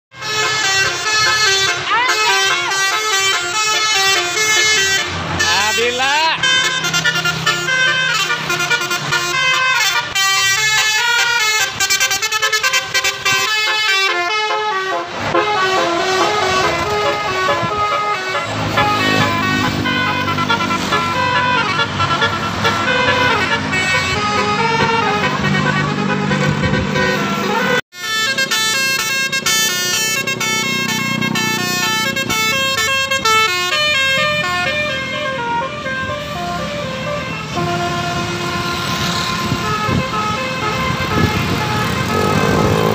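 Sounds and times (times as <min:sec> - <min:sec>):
bus musical horn melody: 0:00.1 - 0:42.9.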